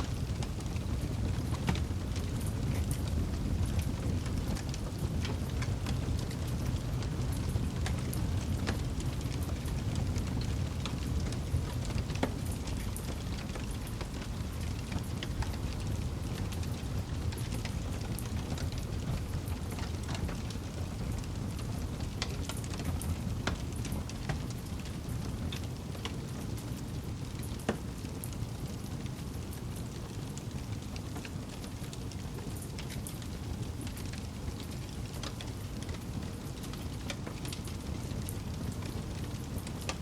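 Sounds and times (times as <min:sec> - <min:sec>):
fire low rumble: 0:00.0 - 0:40.0
wood crackling and popping: 0:00.0 - 0:40.0.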